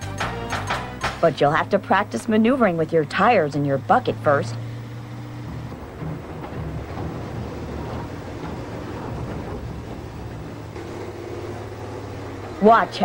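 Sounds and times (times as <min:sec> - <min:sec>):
diesel engine of loader working: 0:00.0 - 0:13.0.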